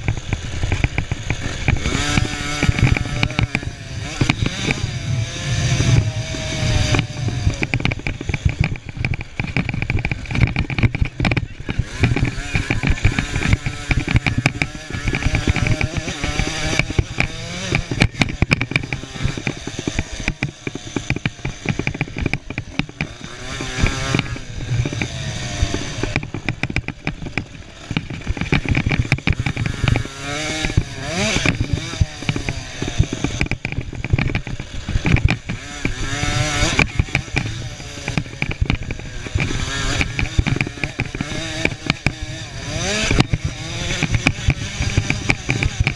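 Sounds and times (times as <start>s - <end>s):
dirt bike engines revving: 0.0s - 45.9s
engine crackles: 0.0s - 45.9s.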